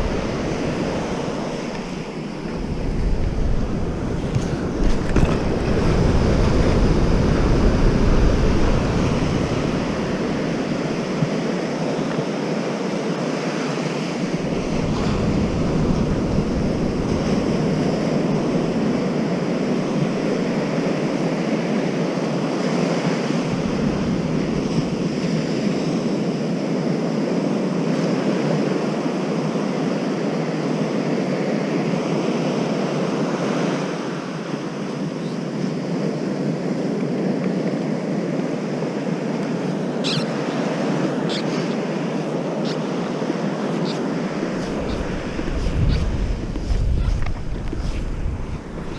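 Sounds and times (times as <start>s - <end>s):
ocean surf washing on beach: 0.0s - 48.9s
wind rumbling on microphone: 0.0s - 48.9s.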